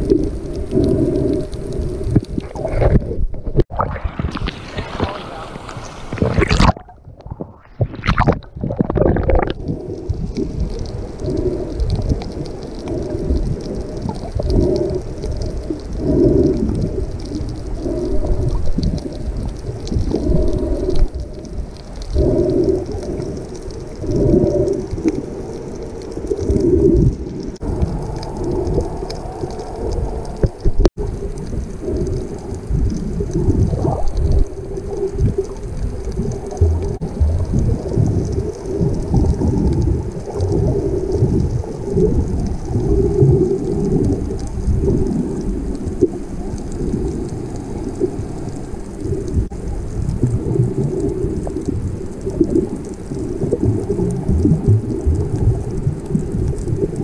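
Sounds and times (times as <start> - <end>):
muffled underwater noise: 0.0 - 57.0.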